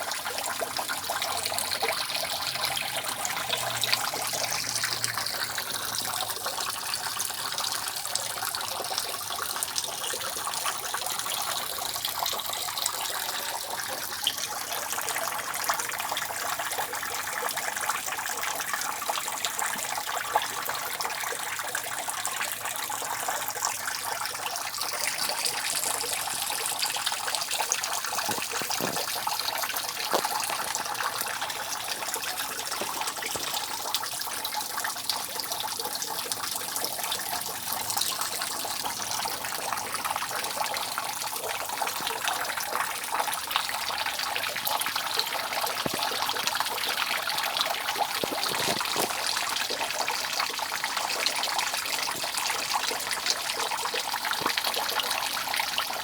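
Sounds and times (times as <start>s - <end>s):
rainwater dripping off roof: 0.0s - 56.0s.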